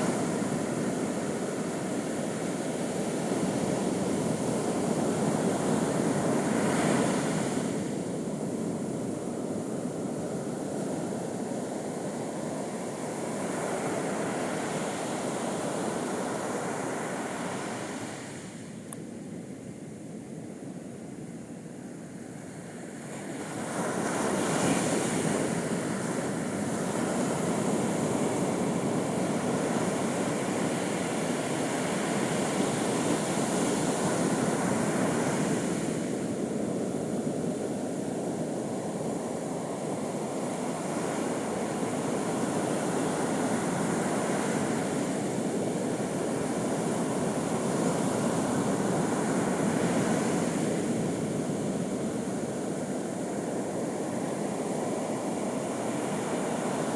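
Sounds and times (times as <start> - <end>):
waves breaking on a beach: 0.0 - 56.9.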